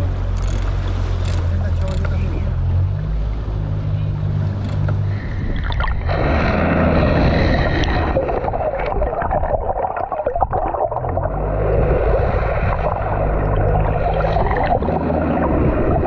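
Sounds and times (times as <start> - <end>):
boat engine running low: 0.0 - 9.5, 10.8 - 16.0
water churning along hull: 0.0 - 16.0.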